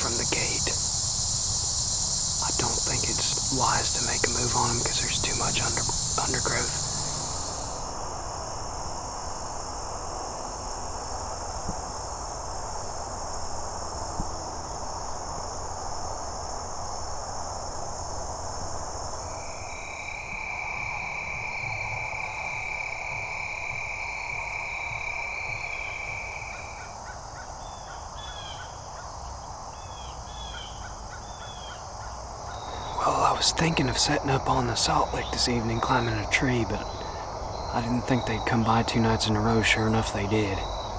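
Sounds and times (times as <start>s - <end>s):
crickets trilling: 0.0s - 40.9s
lower steady insect trill: 0.0s - 40.9s.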